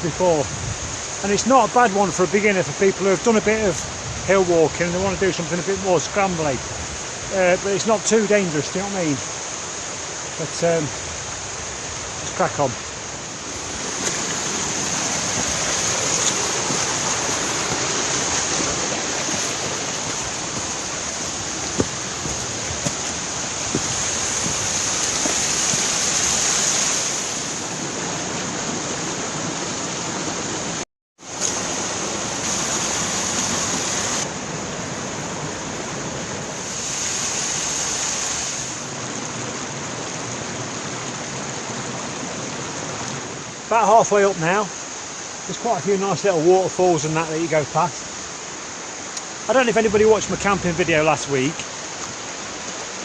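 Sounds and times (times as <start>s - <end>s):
stream rushing over stones: 0.0s - 53.0s.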